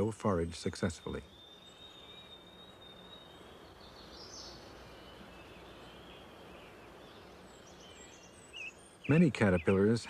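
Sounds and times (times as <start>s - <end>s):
bird chirps: 0.0s - 10.0s
faint outdoor hiss: 0.0s - 10.0s.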